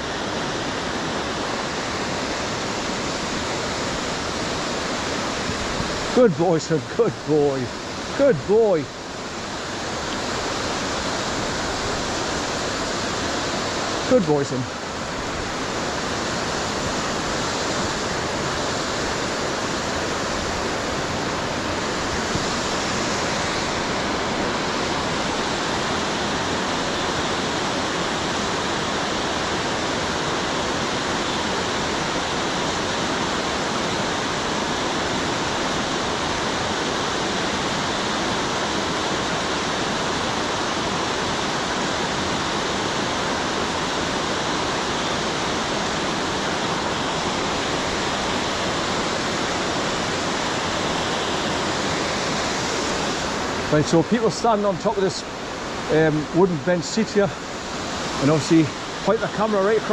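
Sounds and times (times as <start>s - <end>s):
wide waterfall rushing: 0.0s - 59.9s.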